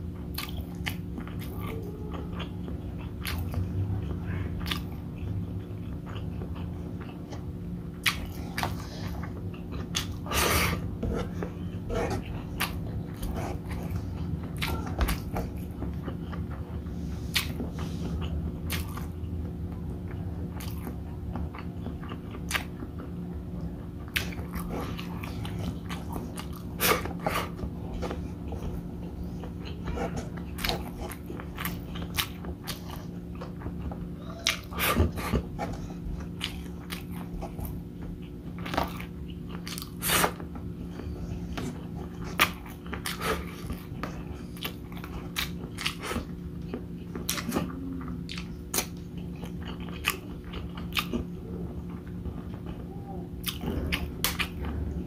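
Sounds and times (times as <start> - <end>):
chewing food: 0.0 - 55.0
steady low hum: 0.0 - 55.0.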